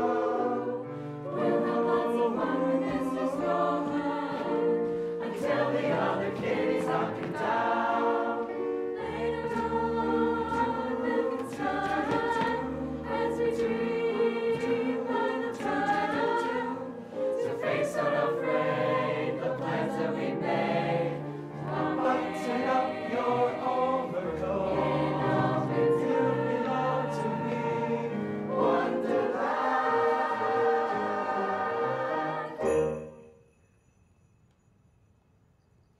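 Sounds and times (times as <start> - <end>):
mixed choir singing in harmony: 0.0 - 32.8.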